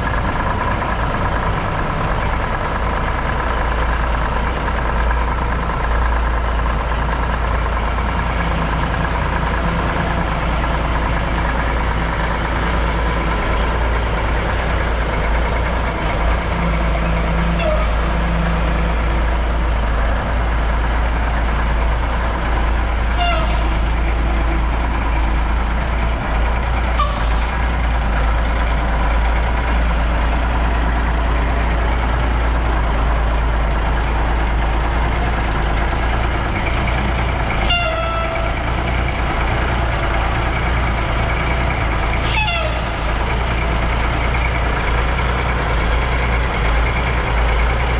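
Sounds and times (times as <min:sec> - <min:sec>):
heavy truck engine rumbling: 0:00.0 - 0:47.9.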